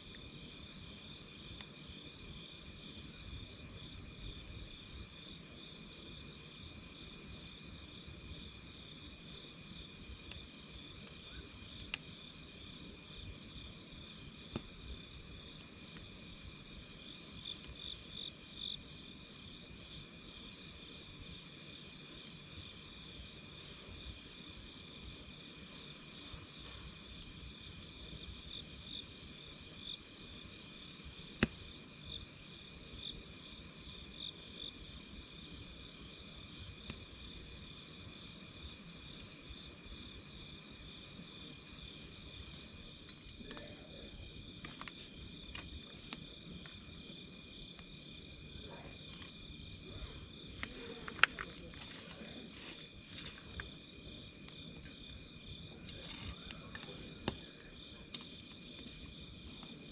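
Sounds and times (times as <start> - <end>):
campfire crackling and popping: 0.0 - 59.9
crickets chirring: 0.0 - 59.9.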